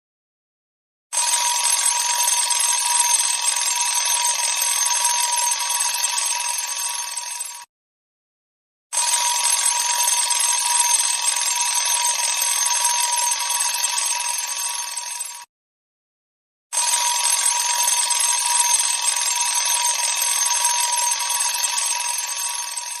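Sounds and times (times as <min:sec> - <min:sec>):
alarm clock ringing: 0:01.2 - 0:07.7, 0:09.0 - 0:15.5, 0:16.8 - 0:23.0.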